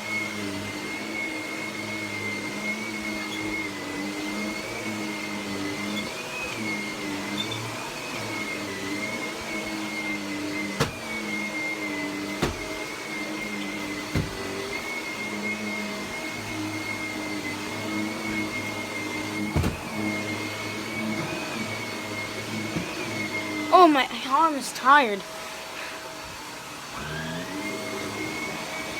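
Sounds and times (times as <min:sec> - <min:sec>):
vacuum cleaner whine: 0:00.0 - 0:28.9.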